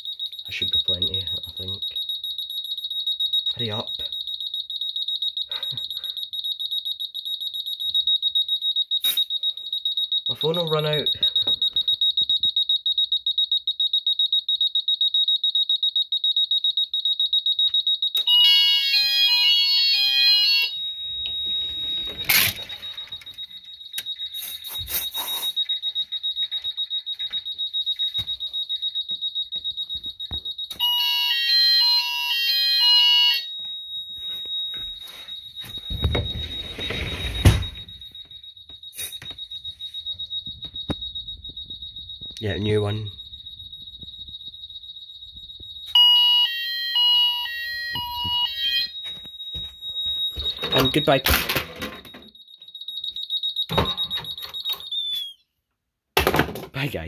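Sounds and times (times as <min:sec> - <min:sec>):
smoke detector pulsing tone: 0:00.0 - 0:55.5
fire alarm sounder stepped tones: 0:00.0 - 0:55.6.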